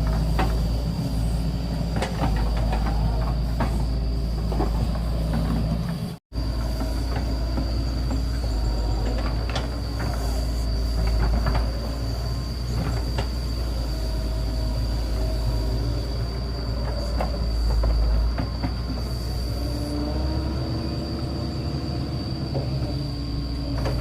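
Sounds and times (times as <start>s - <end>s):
excavator diesel engine rumbling: 0.0s - 24.0s.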